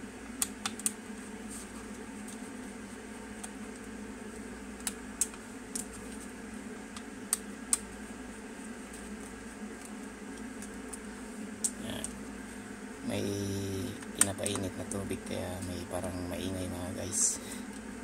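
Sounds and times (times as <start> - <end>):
water heating hum: 0.0 - 18.0.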